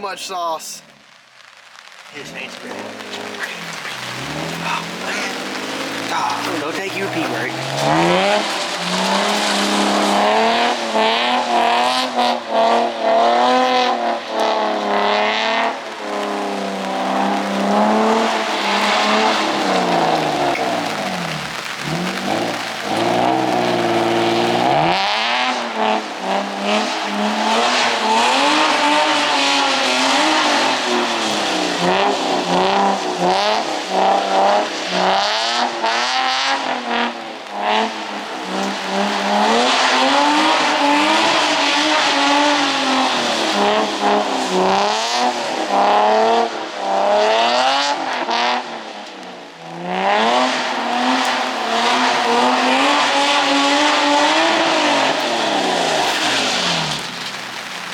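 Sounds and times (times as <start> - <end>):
car engine revving hard: 1.4 - 48.9, 49.5 - 57.8.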